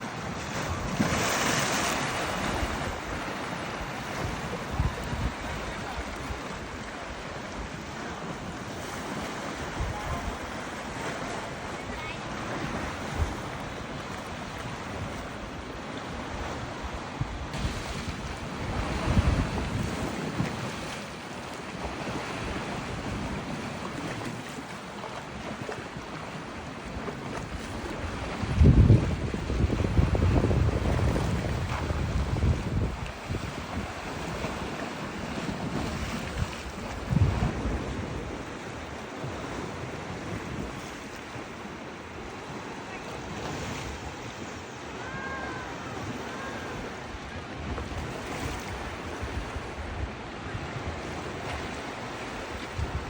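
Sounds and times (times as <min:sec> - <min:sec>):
wind buffeting microphone: 0:00.0 - 0:24.7, 0:25.4 - 0:53.0
water rushing: 0:00.0 - 0:49.3.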